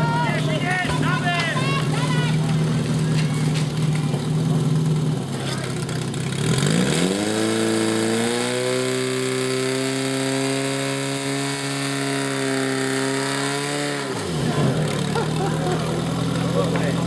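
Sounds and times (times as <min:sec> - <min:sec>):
fire pump engine revving: 0:00.0 - 0:17.0.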